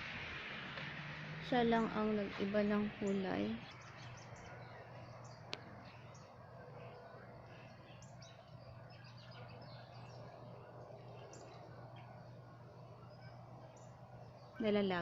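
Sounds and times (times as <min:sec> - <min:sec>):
faint low hum: 0:00.0 - 0:15.0
small birds chirping: 0:00.8 - 0:15.0.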